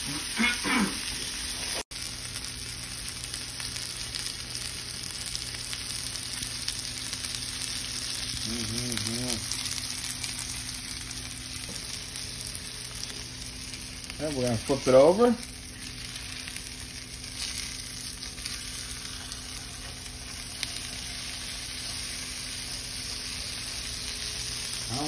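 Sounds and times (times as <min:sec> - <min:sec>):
fish searing in a skillet: 0:00.0 - 0:25.0.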